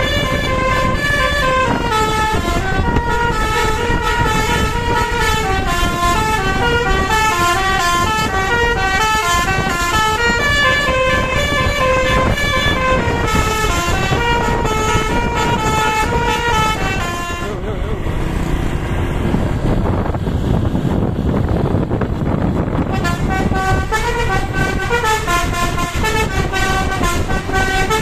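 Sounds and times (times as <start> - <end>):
multi-tone bus horn tune: 0.0 - 19.6, 22.4 - 28.0
low rumble: 0.0 - 28.0.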